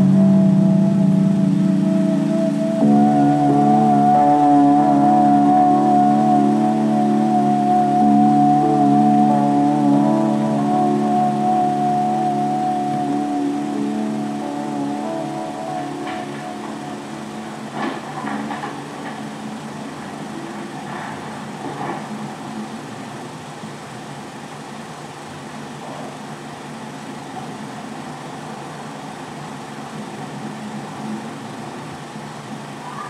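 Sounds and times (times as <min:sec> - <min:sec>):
held musical tone: 0:00.0 - 0:33.0.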